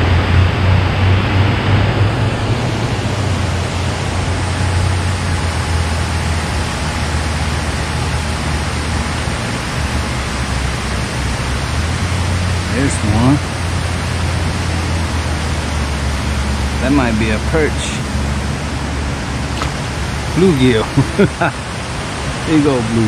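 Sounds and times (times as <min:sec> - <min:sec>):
deep low rumble: 0:00.0 - 0:21.7.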